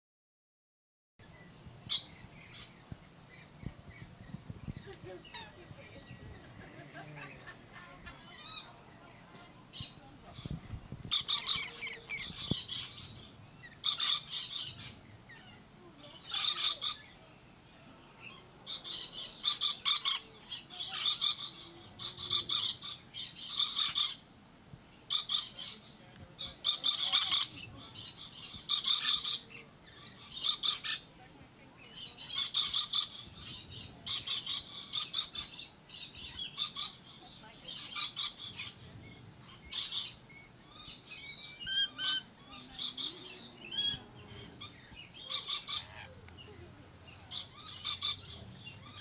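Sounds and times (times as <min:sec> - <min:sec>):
lorikeet high-pitched calls: 0:01.2 - 0:17.3, 0:18.2 - 0:24.3, 0:24.9 - 0:31.2, 0:31.8 - 0:49.0.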